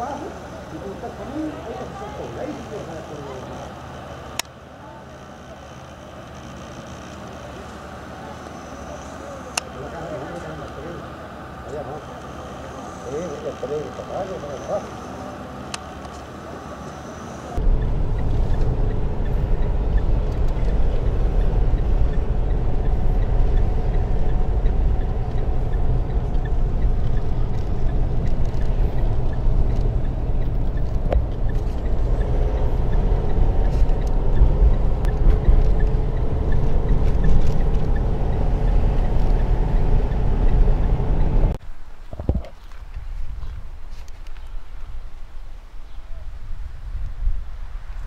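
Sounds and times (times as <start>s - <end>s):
car engine: 0.0s - 41.6s
road noise: 0.0s - 48.0s.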